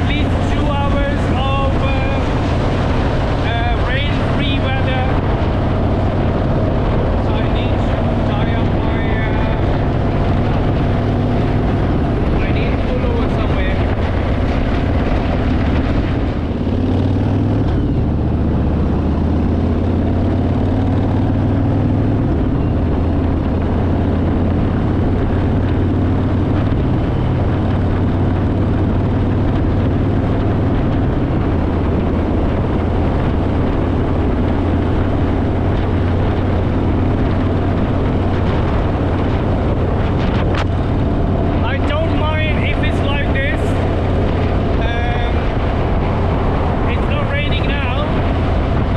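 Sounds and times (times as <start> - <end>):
noisy rush: 0.0 - 48.9
vehicle engine drone: 0.0 - 48.9.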